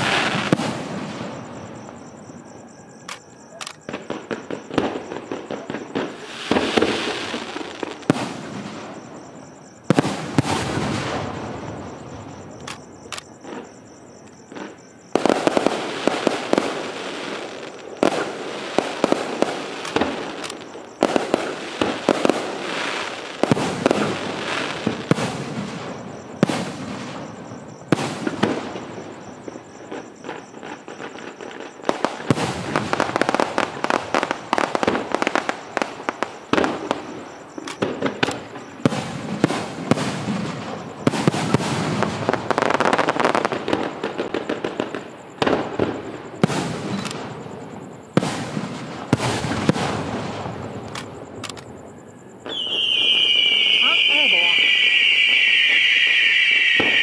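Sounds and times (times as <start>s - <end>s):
firework shells bursting: 3.1s - 47.4s, 52.5s - 57.0s.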